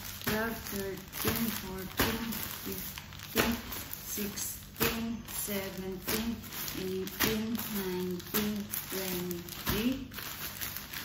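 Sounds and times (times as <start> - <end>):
packages slapping onto pile: 0.0 - 11.0
plastic packages rustling: 0.0 - 11.0.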